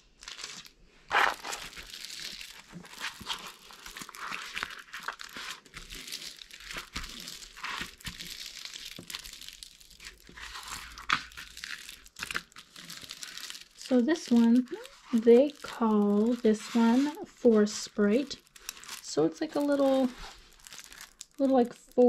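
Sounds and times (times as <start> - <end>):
plastic film crinkling: 0.0 - 22.0.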